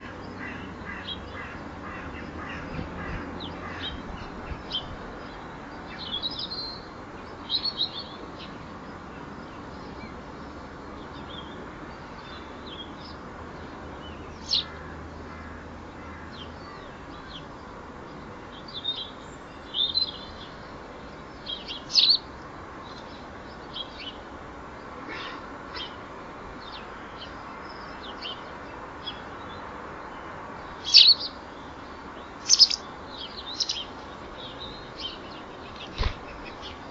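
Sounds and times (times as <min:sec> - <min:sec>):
small birds chirping: 0:00.0 - 0:36.9
steady background hiss: 0:00.0 - 0:36.9.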